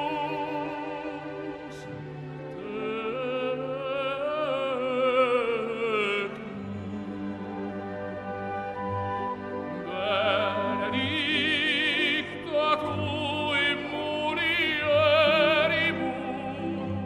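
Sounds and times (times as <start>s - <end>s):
operatic voice singing: 0.0s - 8.8s, 9.7s - 17.0s
orchestral accompaniment: 0.0s - 17.0s.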